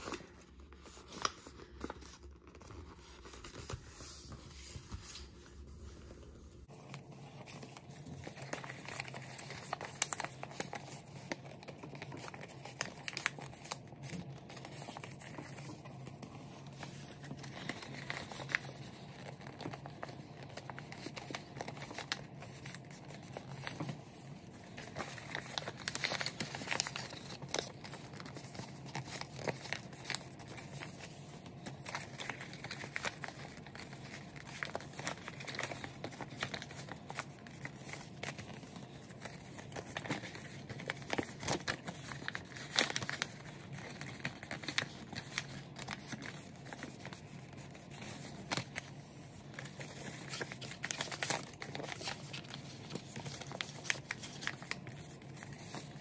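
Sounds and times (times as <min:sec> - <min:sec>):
paper crinkling as it is folded: 0:00.0 - 0:56.0.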